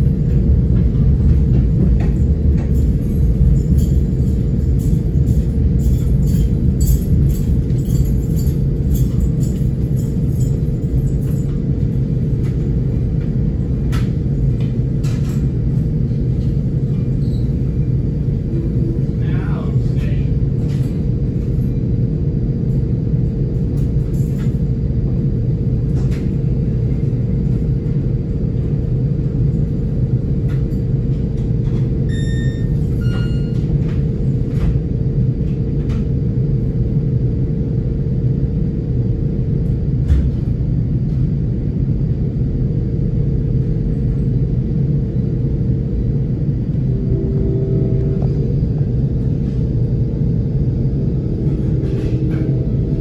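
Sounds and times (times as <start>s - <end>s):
constant hum: 0.0s - 53.0s
train interior rumble: 0.0s - 53.0s.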